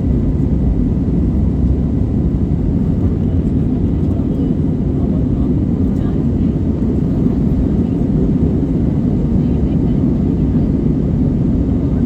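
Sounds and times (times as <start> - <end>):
jet cabin engine rumble: 0.0 - 12.0.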